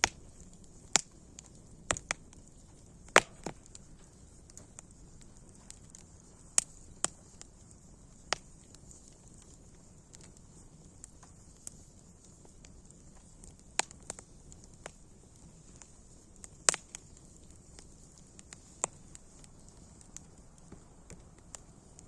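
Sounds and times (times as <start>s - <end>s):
fire crackling and popping: 0.0s - 22.0s
wood fire hissing: 0.0s - 22.0s.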